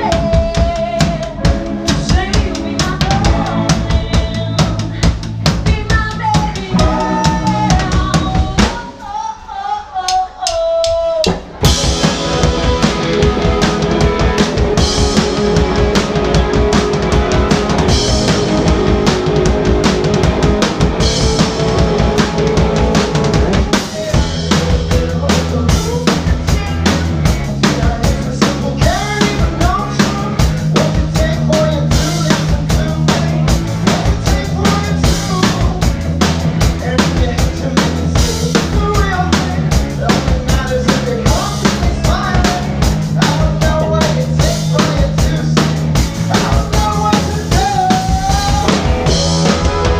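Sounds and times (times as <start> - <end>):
live band playing: 0.0 - 49.9.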